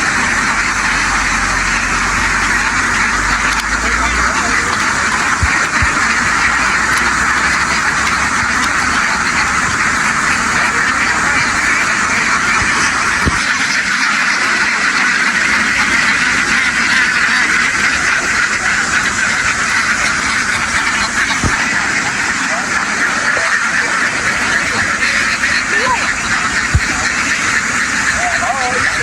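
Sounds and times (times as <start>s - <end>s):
flock of ducks quacking: 0.0s - 29.0s.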